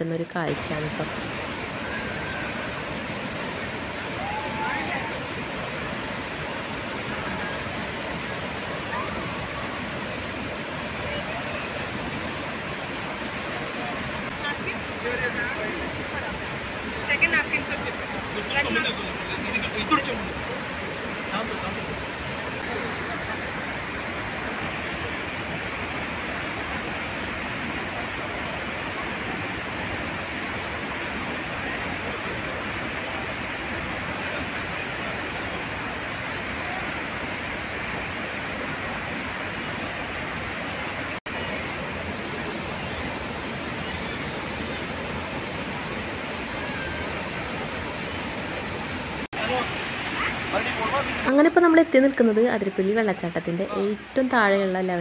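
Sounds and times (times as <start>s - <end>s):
heavy rain falling: 0.0s - 45.4s, 46.0s - 55.0s
waterfall roaring: 0.0s - 55.0s.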